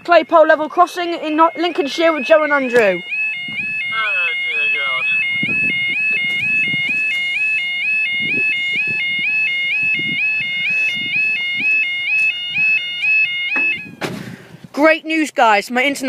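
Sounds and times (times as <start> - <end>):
two-tone crossing alarm: 0.0 - 14.1.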